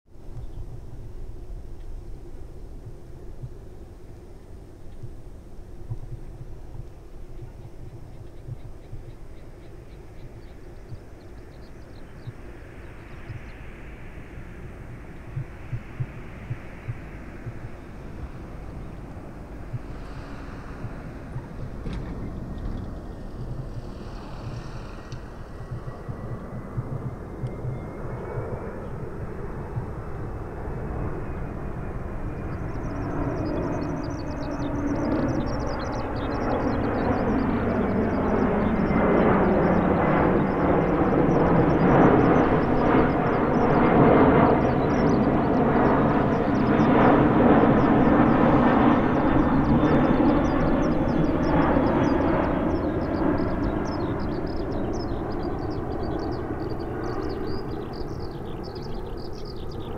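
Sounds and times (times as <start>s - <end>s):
faint engine whine: 0.1s - 59.9s
jet rumble overhead: 0.1s - 59.9s.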